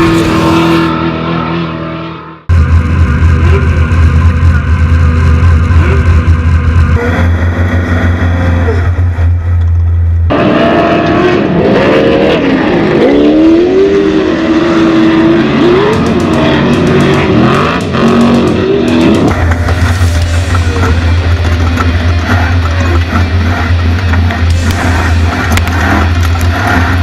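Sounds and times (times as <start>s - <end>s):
race engine revving: 0.0s - 27.0s
rock music: 0.0s - 27.0s.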